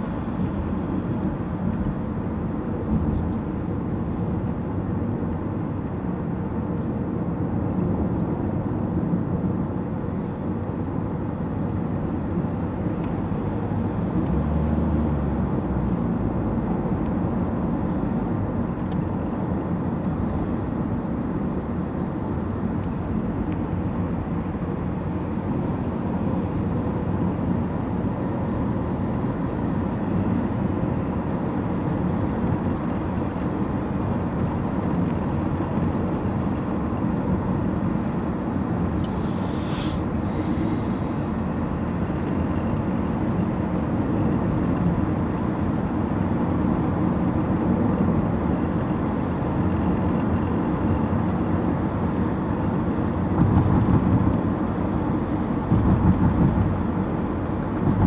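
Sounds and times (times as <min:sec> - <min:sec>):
car engine hum: 0:00.0 - 0:58.0
tyres rumbling on road: 0:00.0 - 0:58.0.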